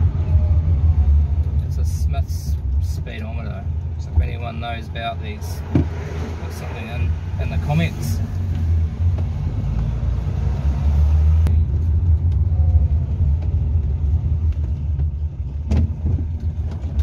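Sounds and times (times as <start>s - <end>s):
car engine rumbling: 0.0s - 17.0s
road noise: 0.0s - 17.0s.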